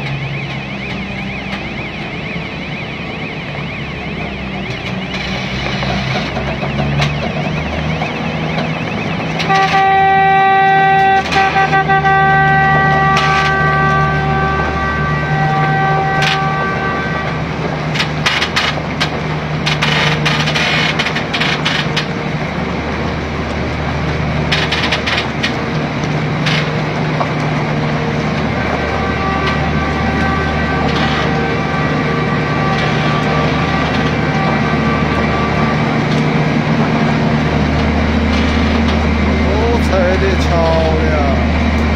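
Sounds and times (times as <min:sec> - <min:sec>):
crackling bursts: 0:00.0 - 0:41.9
low engine drone: 0:00.0 - 0:41.9.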